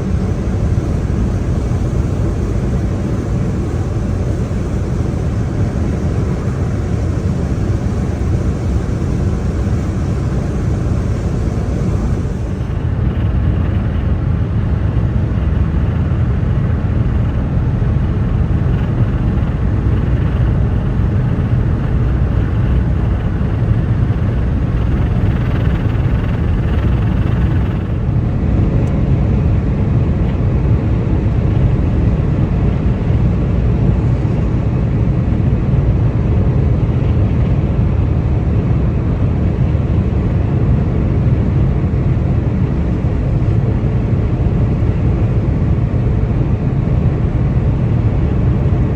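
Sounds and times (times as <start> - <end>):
car engine drone: 0.0 - 40.6.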